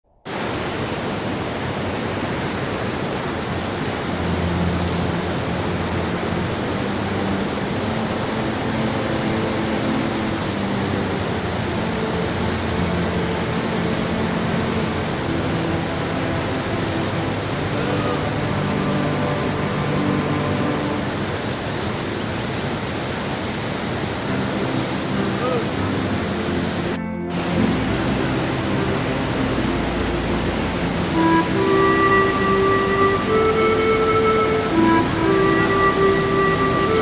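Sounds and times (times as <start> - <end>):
waterfall rushing: 0.3 - 37.0.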